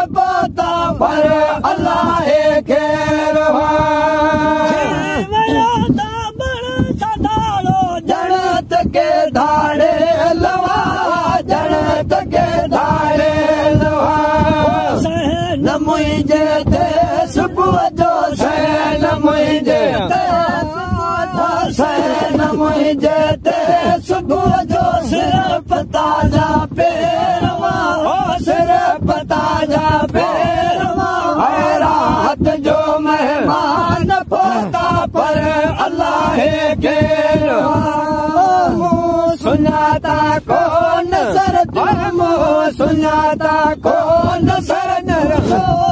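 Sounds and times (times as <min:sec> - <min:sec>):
men chanting in chorus: 0:00.0 - 0:45.9.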